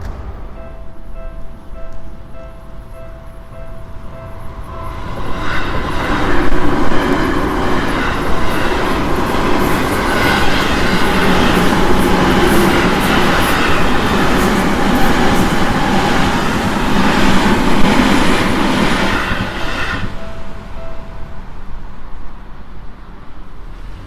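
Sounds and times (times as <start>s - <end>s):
crossing warning bell dinging: 0.0s - 22.4s
train rail noise: 0.0s - 24.0s.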